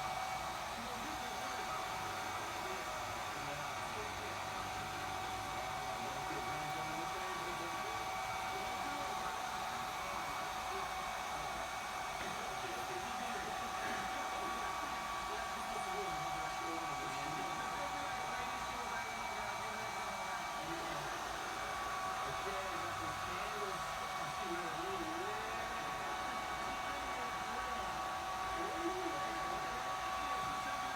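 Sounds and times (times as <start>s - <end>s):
hair dryer running: 0.0s - 30.9s.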